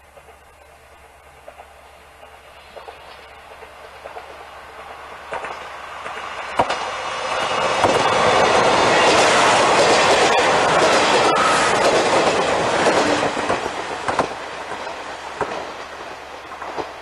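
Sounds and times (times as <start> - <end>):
diesel railcar passing: 0.0 - 17.0
wheels clicking over rail joints: 0.0 - 17.0.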